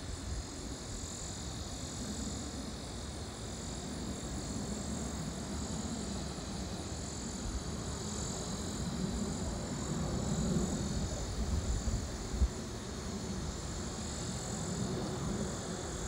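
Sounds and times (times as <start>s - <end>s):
distant airliner engines rumbling: 1.4s - 16.0s.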